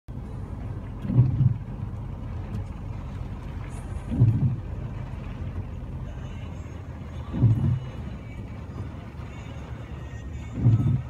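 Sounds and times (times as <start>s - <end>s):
car engine and road noise: 0.1s - 11.0s.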